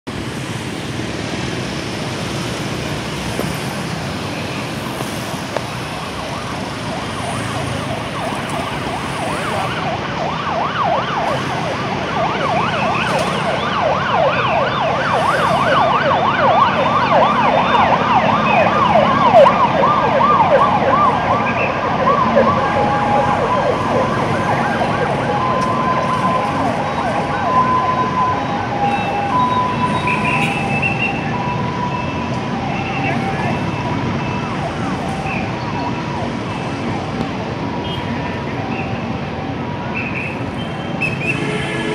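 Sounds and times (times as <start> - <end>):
street traffic noise: 0.0 - 41.9
fire engine sirens wailing: 0.1 - 41.9.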